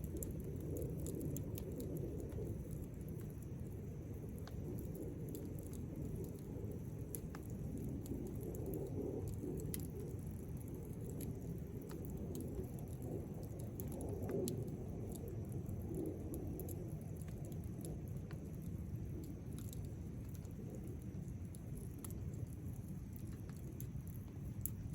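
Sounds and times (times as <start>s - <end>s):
low rush of flame: 0.0s - 24.9s
wood crackling and popping: 0.0s - 24.9s.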